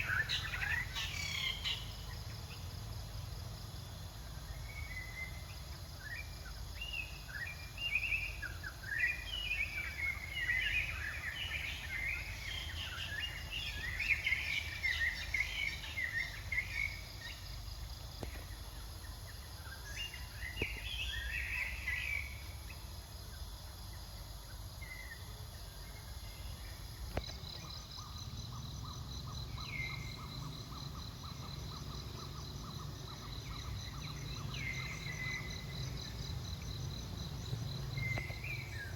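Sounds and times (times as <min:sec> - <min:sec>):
high insect trill: 0:00.0 - 0:38.9.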